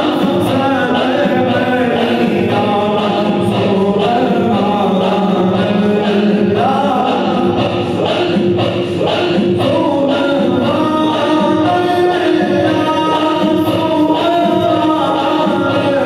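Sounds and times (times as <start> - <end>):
men singing devotional song together: 0.0 - 16.0.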